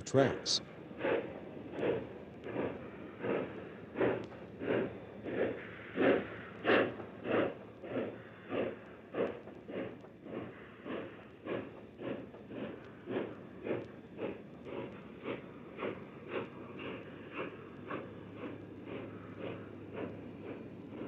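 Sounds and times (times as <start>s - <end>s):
steam locomotive exhaust chuffing: 0.0s - 21.0s.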